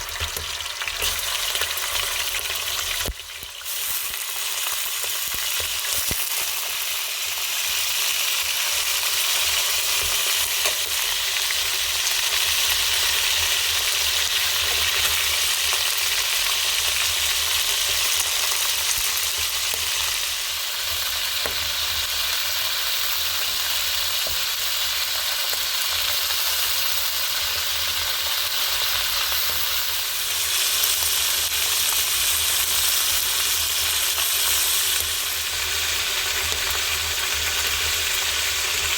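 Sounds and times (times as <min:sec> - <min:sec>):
stew sizzling in a pot: 0:00.0 - 0:38.9.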